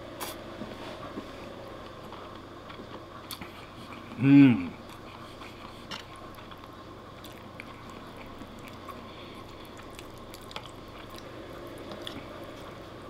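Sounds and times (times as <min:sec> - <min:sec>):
person chewing: 0:01.9 - 0:12.8.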